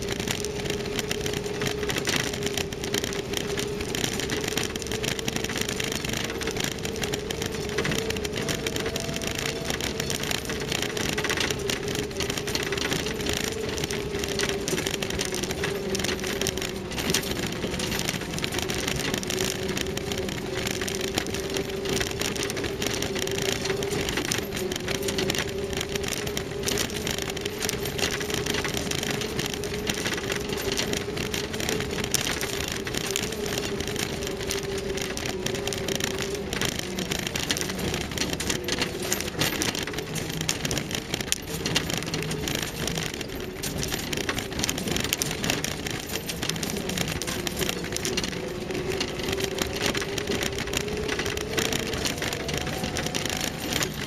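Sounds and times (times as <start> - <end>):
stones crackling under tyres: 0.0 - 54.0.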